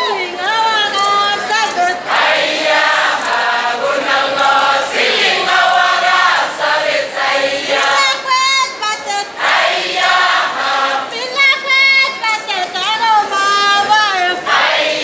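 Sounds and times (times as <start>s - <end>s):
group singing: 0.0s - 15.0s.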